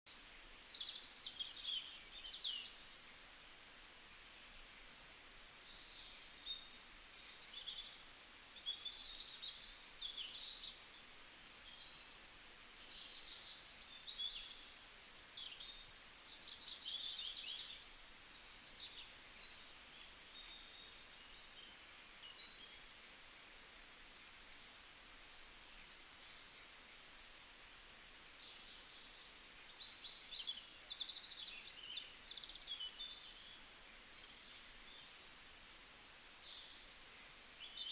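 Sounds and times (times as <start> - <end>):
faint steady hiss: 0.1 - 37.9
songbirds chirping and trilling: 0.1 - 37.9.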